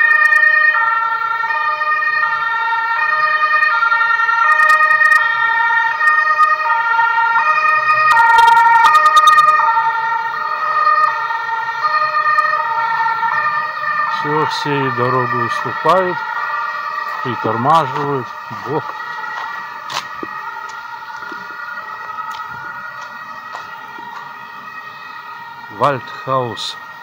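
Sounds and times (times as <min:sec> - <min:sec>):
ambulance two-tone siren: 0:00.0 - 0:27.0.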